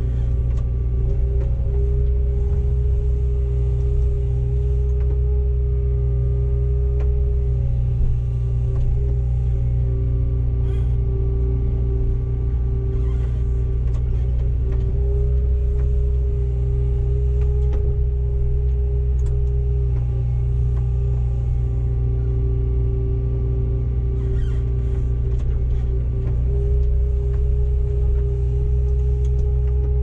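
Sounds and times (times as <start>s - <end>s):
diesel excavator engine drone: 0.0s - 30.0s.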